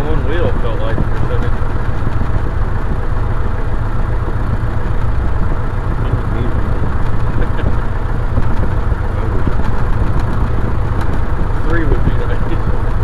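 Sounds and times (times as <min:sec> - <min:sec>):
propeller engine idling: 0:00.0 - 0:13.0.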